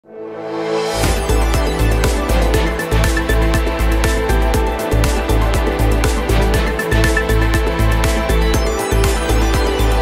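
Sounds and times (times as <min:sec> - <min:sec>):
synth chords: 0:00.1 - 0:10.0
pulsing bass beat: 0:01.0 - 0:10.0.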